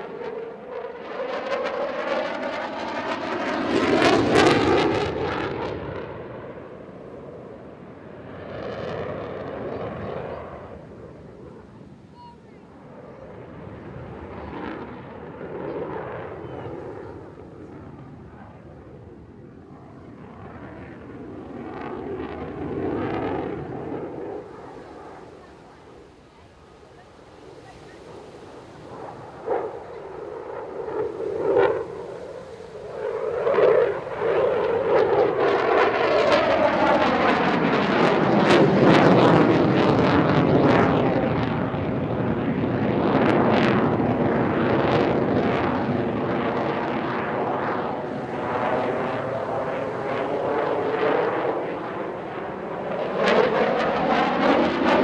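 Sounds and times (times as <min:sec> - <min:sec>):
jet engine roar passing: 0:00.0 - 0:55.0.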